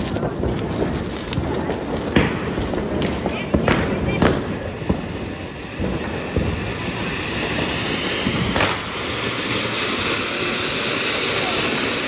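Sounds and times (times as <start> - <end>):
fireworks spraying sparks hiss: 0.0 - 12.0.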